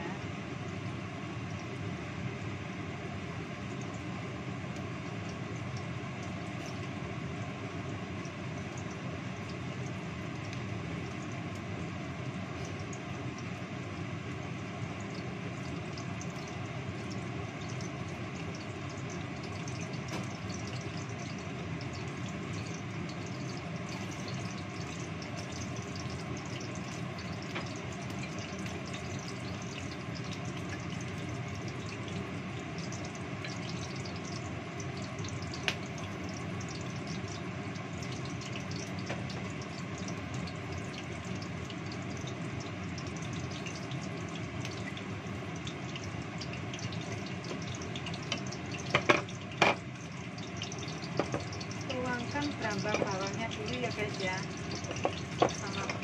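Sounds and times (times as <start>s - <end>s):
range hood fan running: 0.0s - 56.0s.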